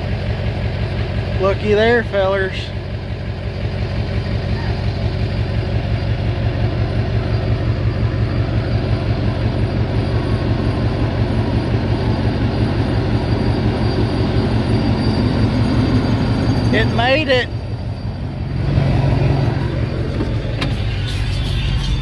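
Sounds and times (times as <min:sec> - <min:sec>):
diesel engine throbbing: 0:00.0 - 0:22.0.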